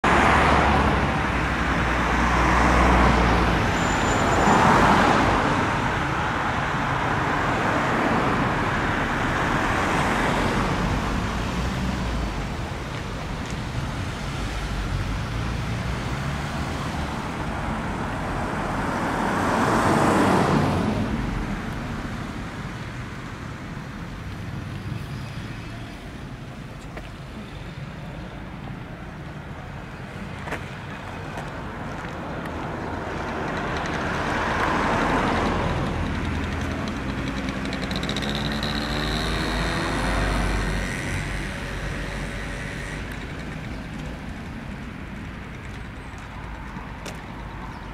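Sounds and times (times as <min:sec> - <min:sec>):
passing vehicles: 0:00.0 - 0:47.9.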